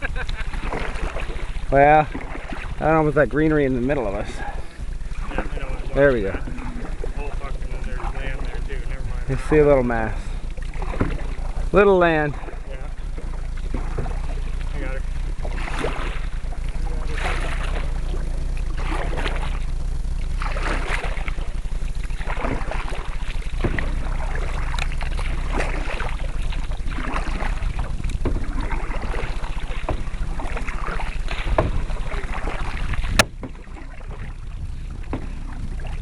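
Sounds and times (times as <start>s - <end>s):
paddle strokes swishing through water: 0.0s - 36.0s
wind rumble on microphone: 0.0s - 36.0s.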